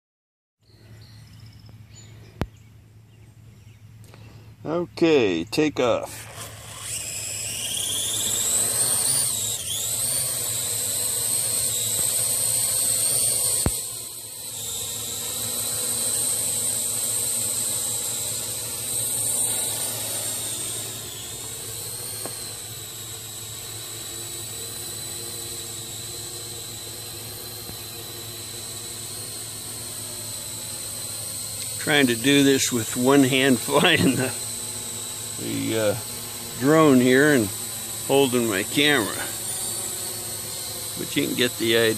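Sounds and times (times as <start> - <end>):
drone propellers whining: 5.6 - 41.9.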